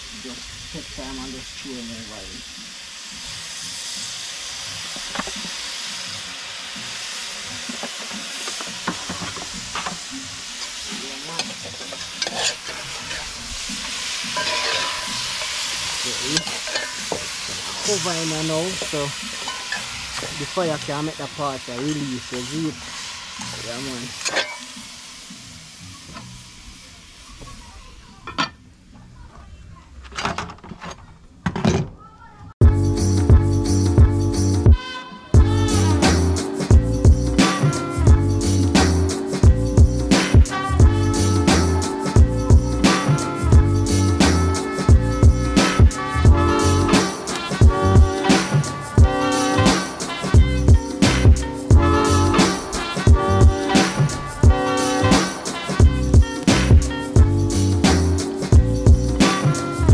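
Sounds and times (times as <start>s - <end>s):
food sizzling over fire: 0.0s - 30.1s, 32.0s - 59.9s.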